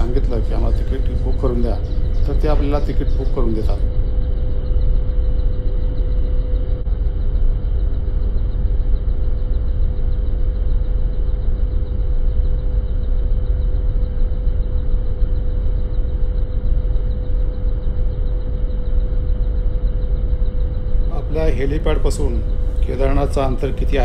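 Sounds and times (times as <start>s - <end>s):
helicopter rotor and engine rumble: 0.0s - 12.3s, 13.2s - 24.0s
constant hum: 0.0s - 24.0s.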